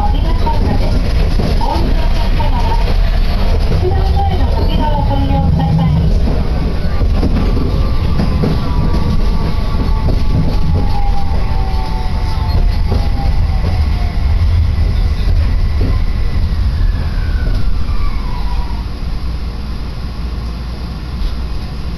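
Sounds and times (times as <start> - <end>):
train low rumble: 0.0 - 21.9.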